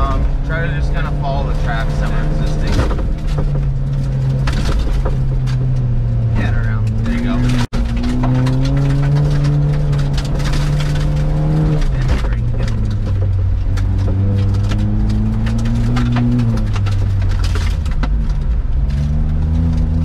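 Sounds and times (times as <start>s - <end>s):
car engine revving: 0.0s - 20.0s
gravel ticking against car underside: 0.0s - 20.0s.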